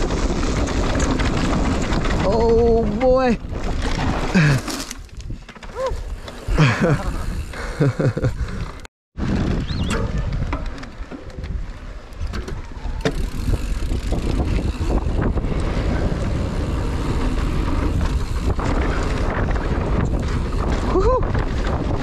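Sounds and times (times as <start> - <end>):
rattling bike tyre and frame: 0.0 - 22.0
wind rush on microphone: 0.0 - 22.0.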